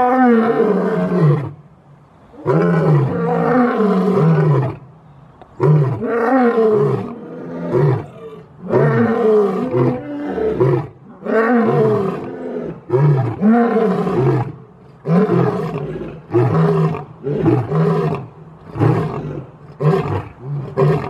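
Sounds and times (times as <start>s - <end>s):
lion roaring: 2.4s - 4.8s, 5.6s - 21.0s.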